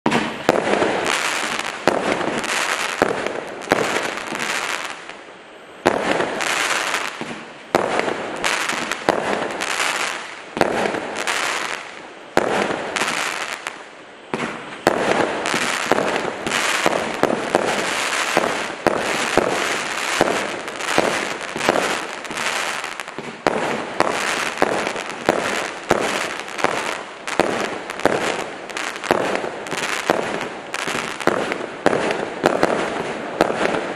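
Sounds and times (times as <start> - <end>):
fireworks launching and bursting: 0.0 - 33.9.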